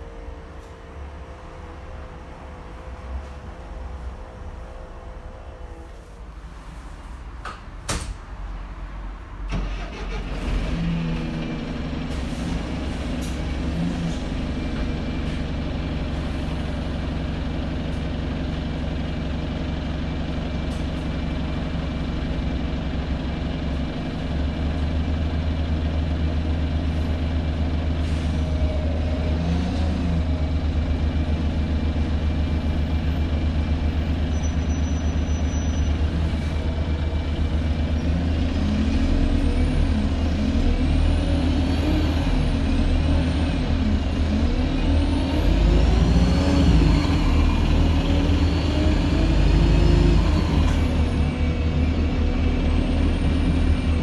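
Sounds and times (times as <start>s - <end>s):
diesel bus engine idling: 8.2s - 54.0s.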